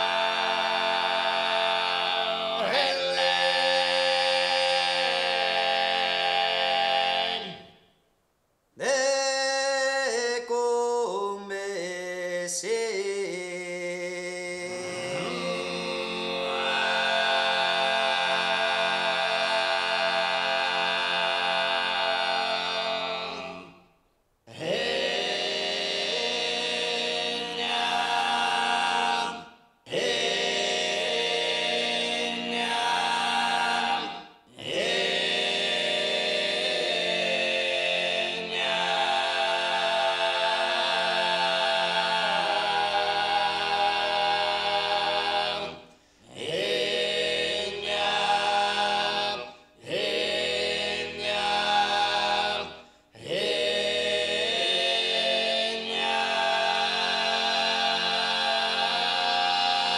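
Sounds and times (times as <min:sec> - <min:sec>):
male vocal quartet singing a cappella: 0:00.0 - 0:07.8, 0:08.8 - 0:23.8, 0:24.5 - 0:59.9.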